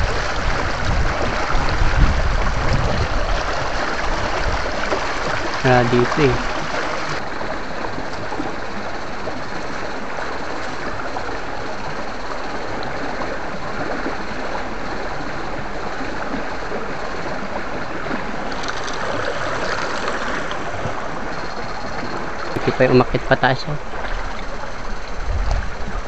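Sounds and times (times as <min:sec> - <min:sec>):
stream flowing over stones: 0:00.0 - 0:26.0.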